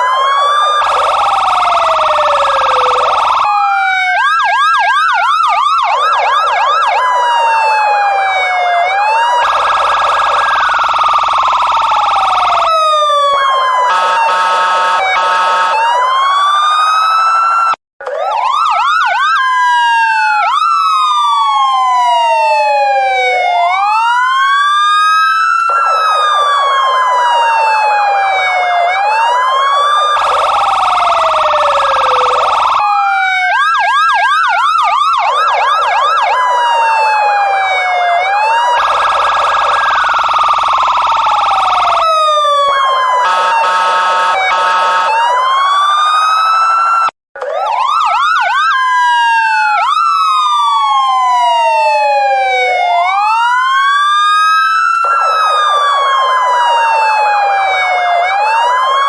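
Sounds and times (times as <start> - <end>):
electronic police siren: 0.0 - 59.0.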